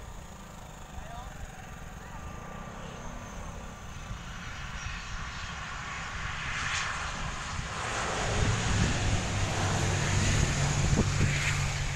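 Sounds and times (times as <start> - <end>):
turboprop engines running: 0.0 - 11.9.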